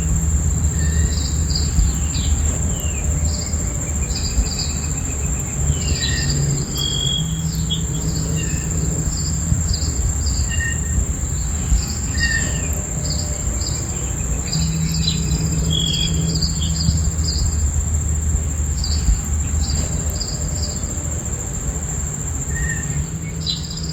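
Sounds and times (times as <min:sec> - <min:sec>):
birds chirping: 0:00.0 - 0:23.9
crickets trilling: 0:00.0 - 0:23.9
low rumble: 0:00.0 - 0:23.9.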